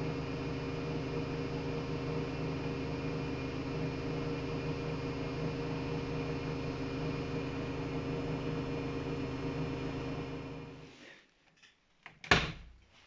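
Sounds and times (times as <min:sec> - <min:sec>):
washing machine running: 0:00.0 - 0:10.9.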